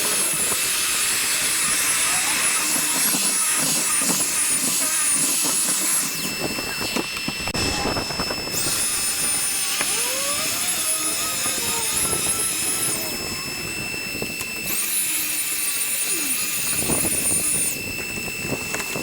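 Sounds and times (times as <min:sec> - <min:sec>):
power sander whining: 0:00.0 - 0:19.0.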